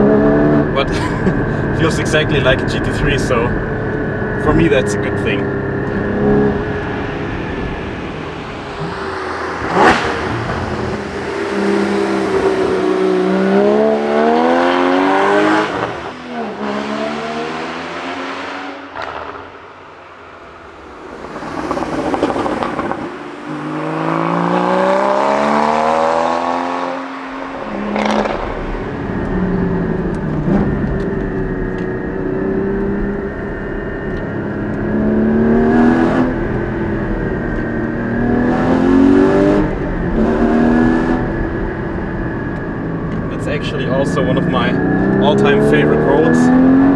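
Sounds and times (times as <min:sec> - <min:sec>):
exhaust cracks: 0:00.0 - 0:16.7, 0:18.7 - 0:46.5
car engine revving hard: 0:00.0 - 0:46.9.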